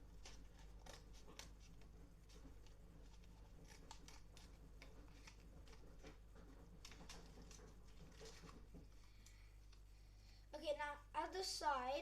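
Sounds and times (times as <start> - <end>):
paper tubes rustling and clicking: 0.0 - 9.9.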